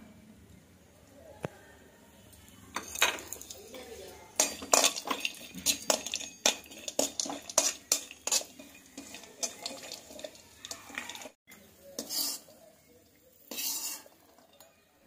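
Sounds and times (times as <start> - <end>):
metal spoon scraping a pan: 2.8 - 14.9.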